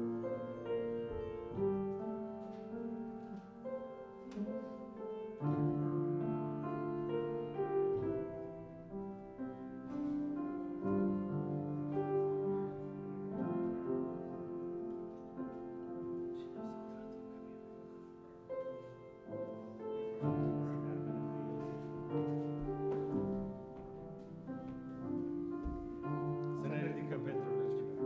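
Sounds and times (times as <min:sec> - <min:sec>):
slow keyboard chords: 0:00.0 - 0:28.0.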